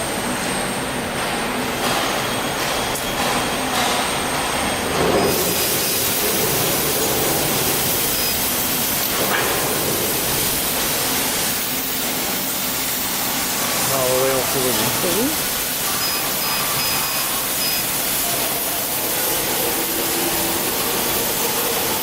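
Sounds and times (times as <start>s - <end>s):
machinery rumble and hiss: 0.0s - 22.0s.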